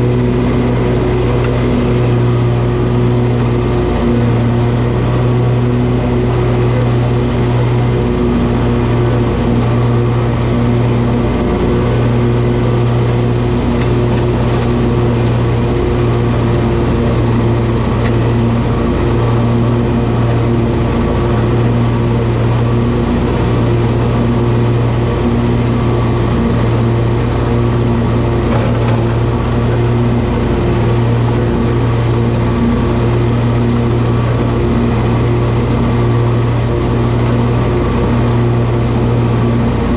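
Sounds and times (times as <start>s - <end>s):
riding mower engine droning: 0.0s - 39.9s.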